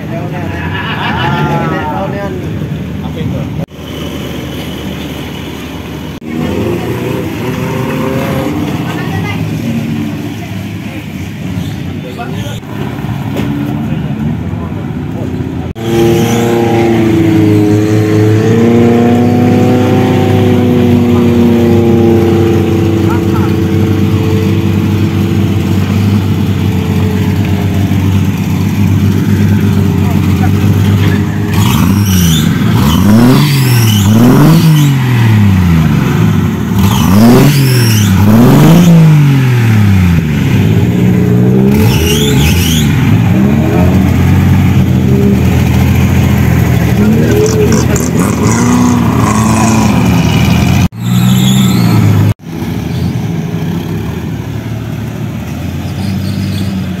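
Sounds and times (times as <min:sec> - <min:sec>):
vehicle engine running loudly: 0:00.0 - 0:57.0.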